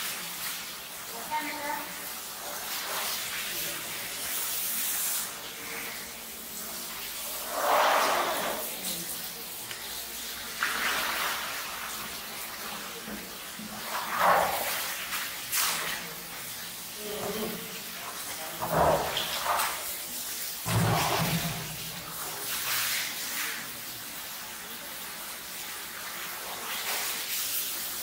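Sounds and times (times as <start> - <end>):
water splashing onto wet floor: 0.0 - 28.0.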